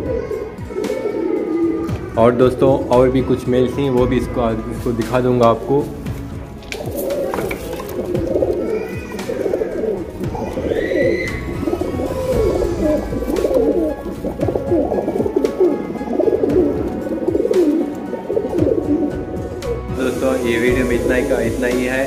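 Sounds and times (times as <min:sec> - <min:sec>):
pigeons cooing: 0:00.0 - 0:02.2, 0:05.8 - 0:21.3.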